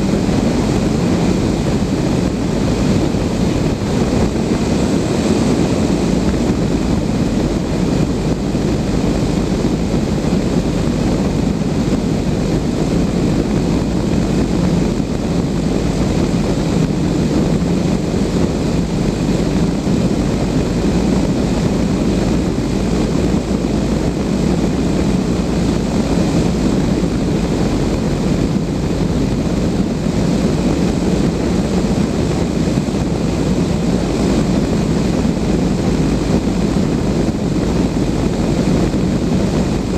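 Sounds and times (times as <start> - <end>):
wind noise around glider: 0.0 - 39.9.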